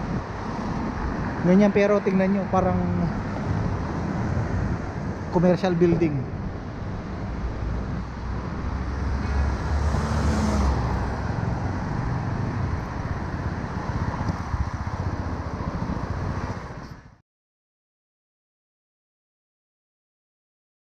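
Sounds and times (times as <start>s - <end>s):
vehicle passing: 0.0s - 17.0s
low rumble of cars: 0.0s - 17.2s.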